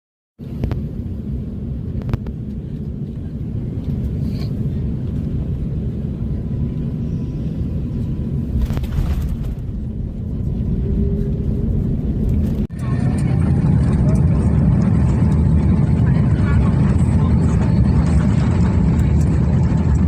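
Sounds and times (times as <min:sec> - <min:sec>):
low rumble of airflow and landing gear: 0:00.4 - 0:20.0.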